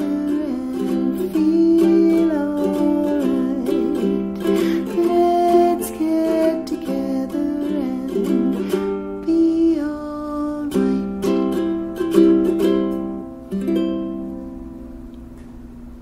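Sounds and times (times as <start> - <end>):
ukulele strumming chords: 0.0 - 15.7.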